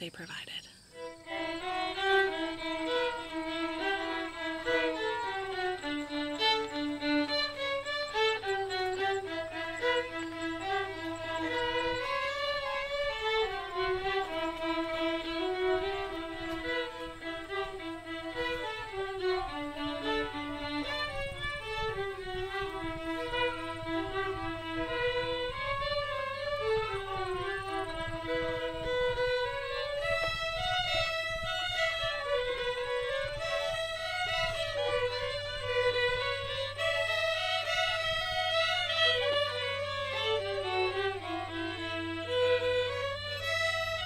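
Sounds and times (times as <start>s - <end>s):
violin melody: 0.8s - 44.0s.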